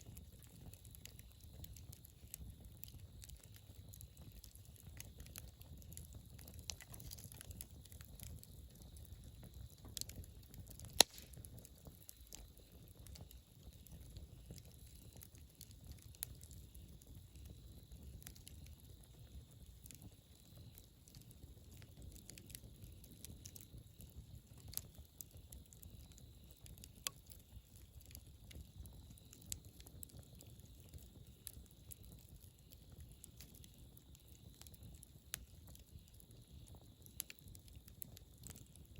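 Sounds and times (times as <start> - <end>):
campfire crackling and popping: 0.0 - 38.9
low steady fire rumble: 0.0 - 38.9.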